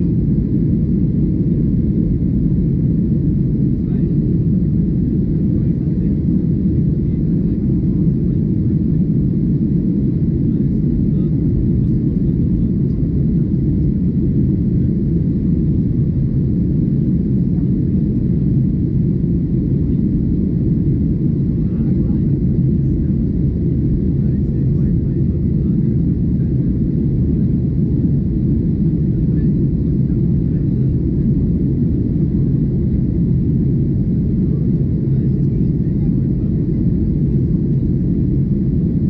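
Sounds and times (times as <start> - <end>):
airplane cabin engine rumble: 0.0 - 39.0.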